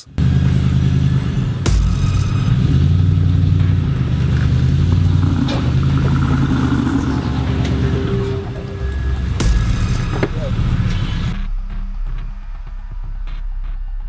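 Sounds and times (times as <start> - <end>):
truck engine idling: 0.0 - 11.4.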